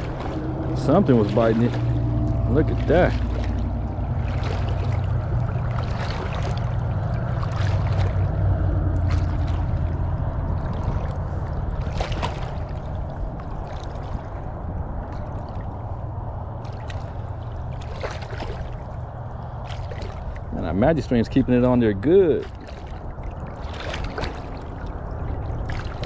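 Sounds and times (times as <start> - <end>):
steady low rumble: 0.0 - 26.0
water lapping at shoreline: 0.0 - 26.0.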